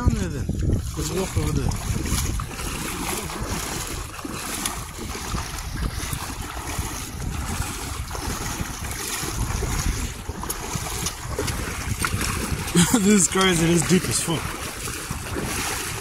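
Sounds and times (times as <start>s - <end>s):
people wading splashes: 0.0s - 16.0s
shallow seawater washing: 0.0s - 16.0s
wind rumbling on microphone: 0.0s - 16.0s.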